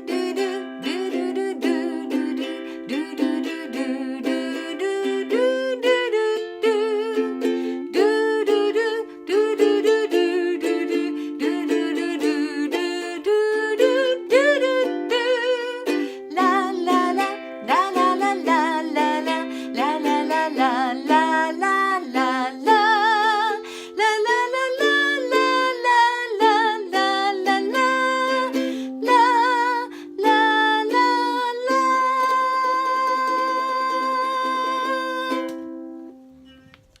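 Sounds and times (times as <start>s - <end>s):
woman singing wordless melody: 0.0s - 36.1s
ukulele strumming: 0.0s - 37.0s.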